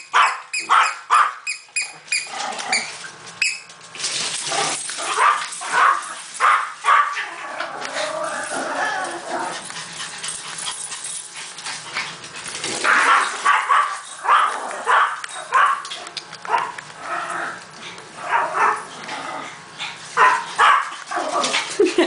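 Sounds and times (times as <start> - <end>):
small dogs barking and yipping: 0.0 - 3.7, 4.4 - 16.9, 18.2 - 19.0, 20.0 - 22.0.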